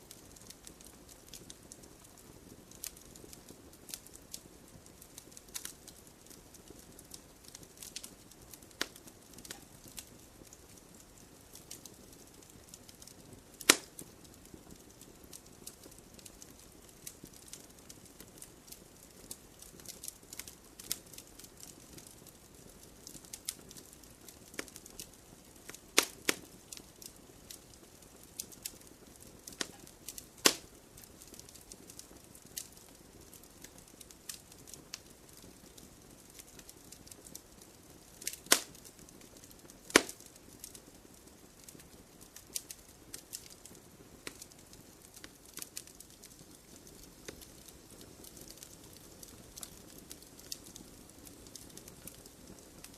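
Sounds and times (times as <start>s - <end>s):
wood fire crackling: 0.0s - 52.9s
fire pops: 0.1s - 52.9s.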